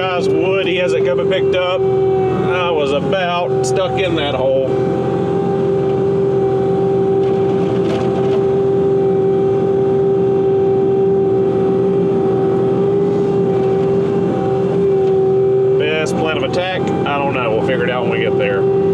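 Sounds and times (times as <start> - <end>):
track loader diesel engine running: 0.0 - 18.9.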